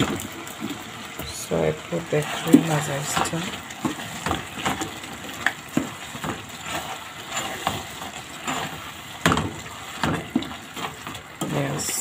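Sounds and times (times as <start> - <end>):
wooden spoon scraping steel pot: 1.9 - 12.0.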